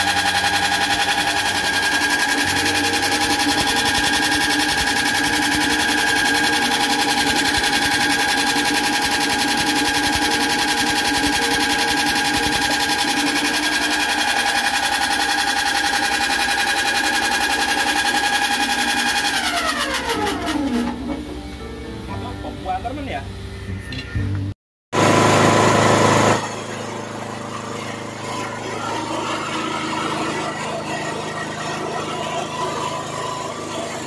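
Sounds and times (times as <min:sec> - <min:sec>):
machine whirring hum: 0:00.0 - 0:34.0.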